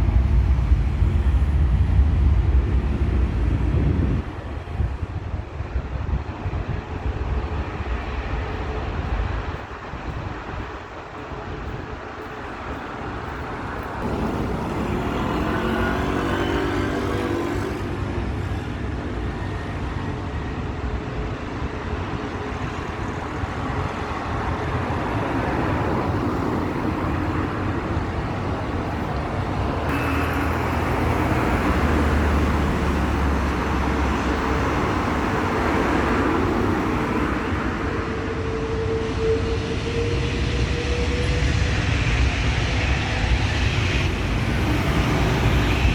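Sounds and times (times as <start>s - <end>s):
jet engines roaring on take-off: 0.0s - 45.9s.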